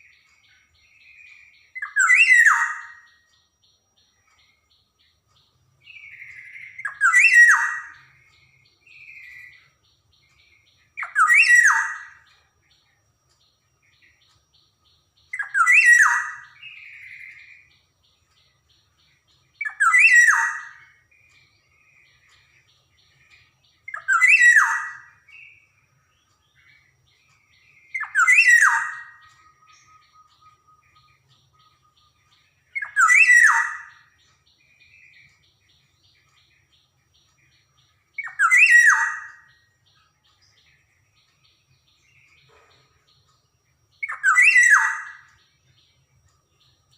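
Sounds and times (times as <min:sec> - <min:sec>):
oriole fluty whistled song: 0:00.0 - 0:13.0, 0:14.0 - 0:42.6, 0:43.9 - 0:46.8
soft bird calls: 0:00.0 - 0:46.9.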